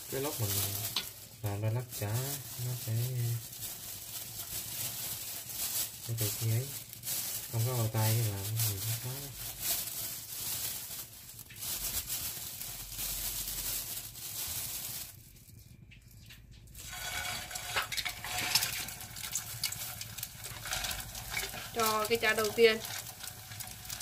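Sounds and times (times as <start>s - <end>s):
oil crackling in frying pan: 0.0s - 24.0s.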